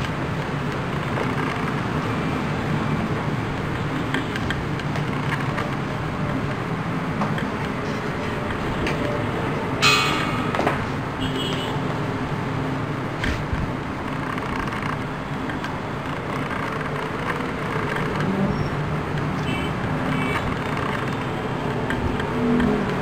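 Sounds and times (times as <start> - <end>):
steady traffic noise: 0.0 - 23.0.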